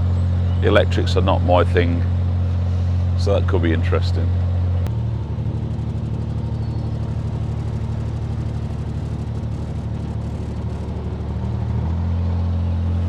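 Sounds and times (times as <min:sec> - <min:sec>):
diesel engine throbbing: 0:00.0 - 0:13.0.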